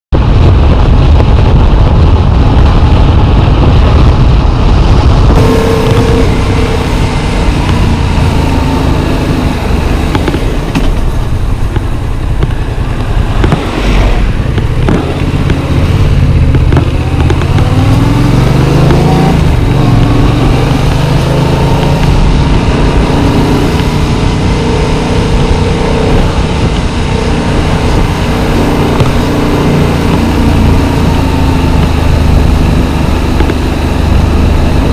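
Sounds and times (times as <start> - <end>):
wind noise: 0.1 - 34.9
motorcycle engine running: 0.2 - 34.9.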